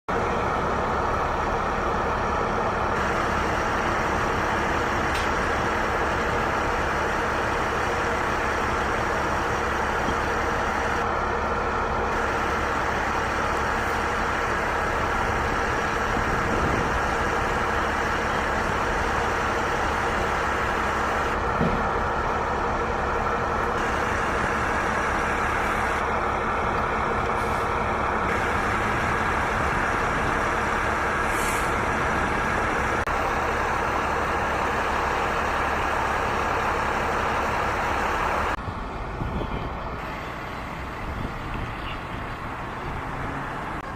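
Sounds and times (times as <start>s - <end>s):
vehicle engine idling: 0.1s - 43.9s.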